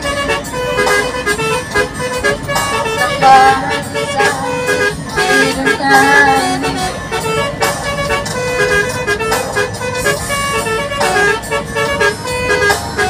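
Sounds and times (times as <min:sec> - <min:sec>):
multi-tone air horn melody: 0:00.0 - 0:13.0.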